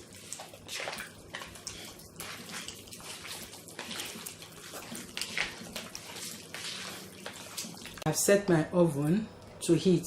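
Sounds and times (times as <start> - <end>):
wet squishing and sloshing: 0.0 - 8.1.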